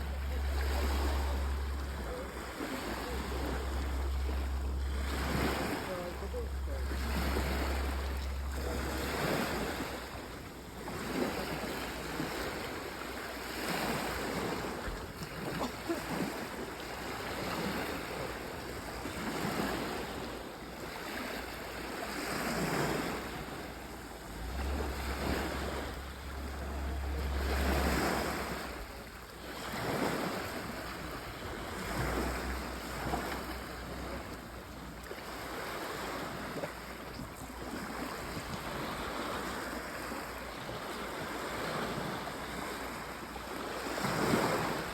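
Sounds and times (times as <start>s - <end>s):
sea waves washing ashore: 0.0s - 44.9s.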